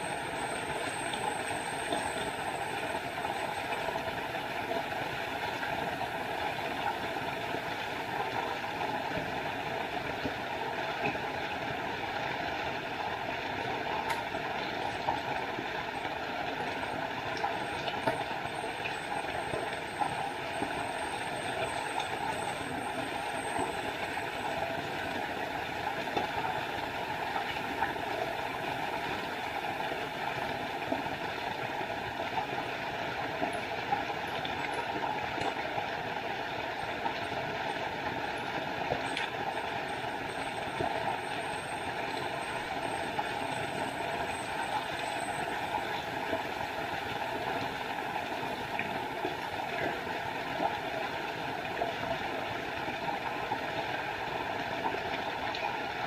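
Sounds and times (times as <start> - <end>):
waterfall pouring and splashing: 0.0 - 56.0.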